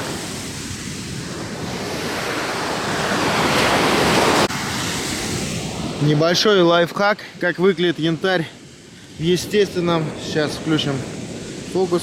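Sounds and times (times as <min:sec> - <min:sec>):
surf washing onto sandy beach: 0:00.0 - 0:12.0.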